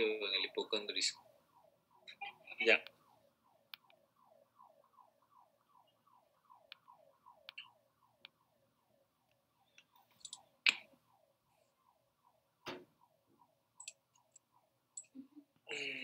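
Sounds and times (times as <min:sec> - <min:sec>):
faint gliding siren: 0:00.0 - 0:16.0.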